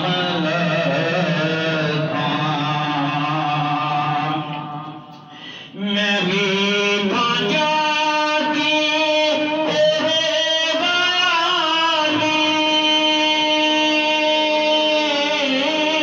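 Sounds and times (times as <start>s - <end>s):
man singing a devotional chant: 0.0s - 4.9s, 5.6s - 16.0s.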